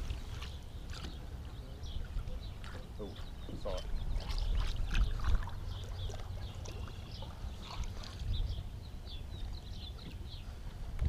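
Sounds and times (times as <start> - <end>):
low wind rumble: 0.0 - 11.0
waves lapping against boat hull: 0.0 - 11.0.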